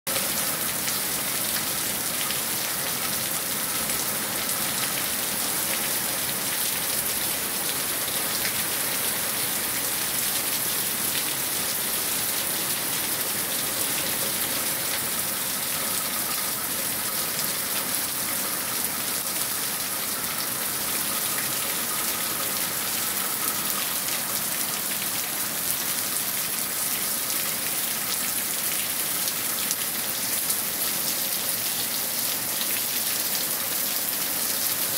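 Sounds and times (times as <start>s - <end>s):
rain on leaves: 0.1s - 34.9s.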